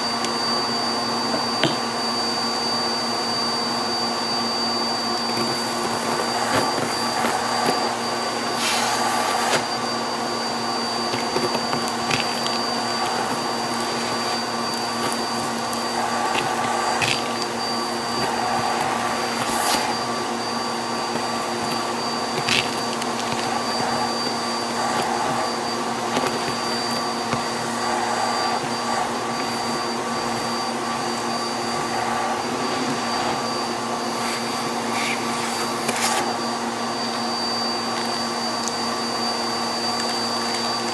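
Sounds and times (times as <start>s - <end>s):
vacuum cleaner whining: 0.0s - 40.9s.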